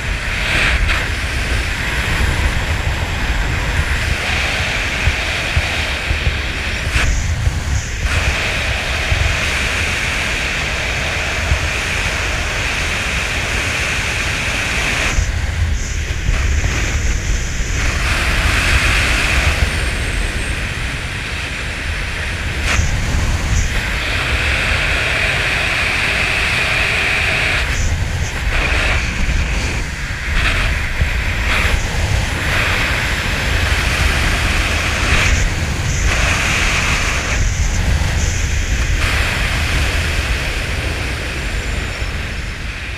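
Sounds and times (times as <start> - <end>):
wind roaring over microphone: 0.0 - 42.9.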